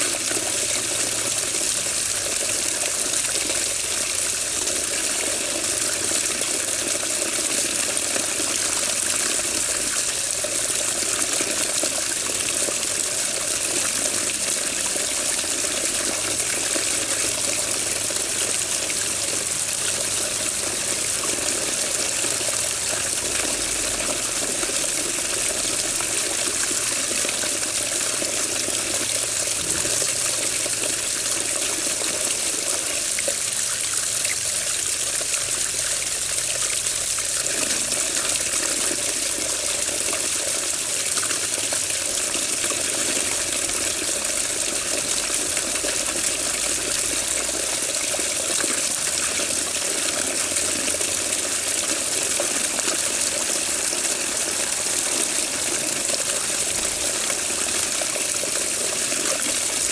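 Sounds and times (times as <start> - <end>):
running water splashing: 0.0 - 59.9.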